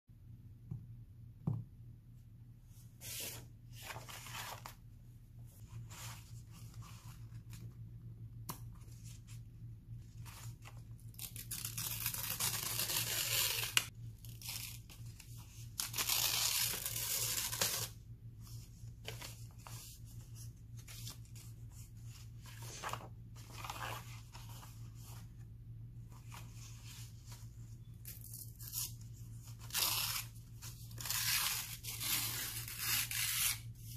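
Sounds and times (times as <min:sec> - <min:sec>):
faint steady hum: 0:00.1 - 0:33.9.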